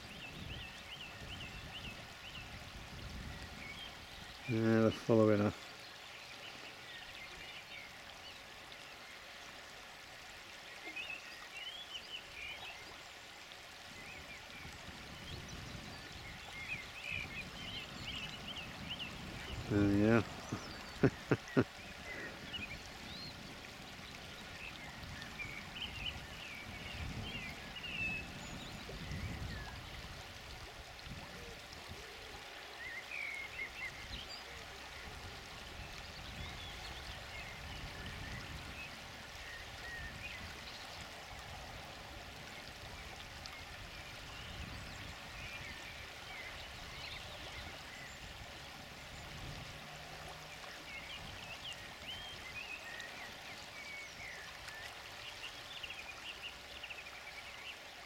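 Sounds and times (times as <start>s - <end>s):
river water running over gravel: 0.0s - 58.0s.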